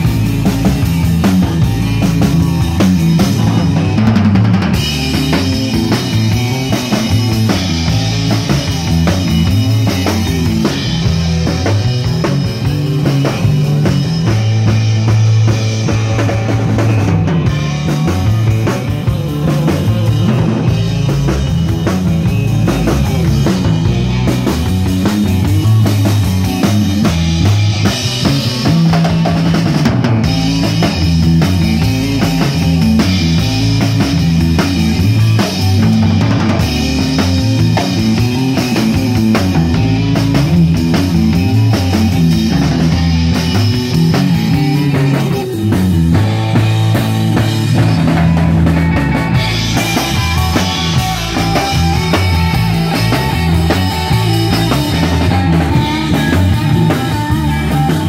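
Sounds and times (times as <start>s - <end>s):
bass guitar: 0.0s - 58.0s
drum kit beat: 0.0s - 58.0s
twangy electric guitar: 0.0s - 58.0s.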